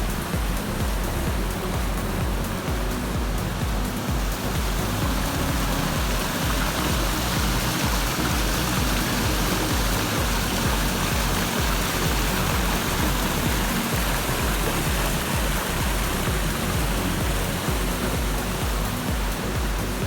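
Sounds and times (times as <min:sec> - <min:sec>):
music: 0:00.0 - 0:20.0
waterfall rushing: 0:00.0 - 0:20.0.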